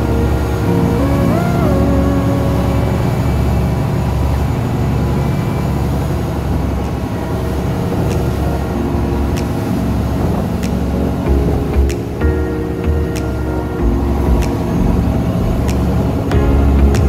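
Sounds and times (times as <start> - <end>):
churning wake rushing: 0.0 - 17.0.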